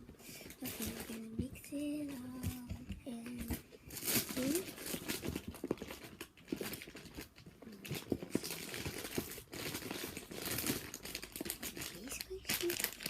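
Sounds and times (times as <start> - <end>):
plastic toys rustling and crinkling: 0.0 - 13.0.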